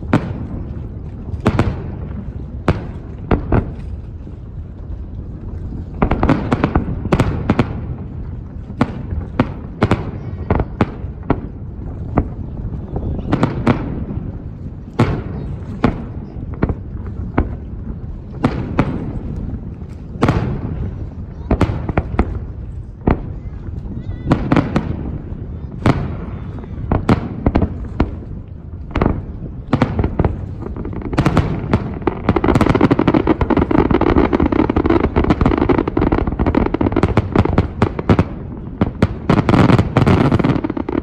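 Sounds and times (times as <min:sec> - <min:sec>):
continuous low rumble: 0:00.0 - 0:41.0.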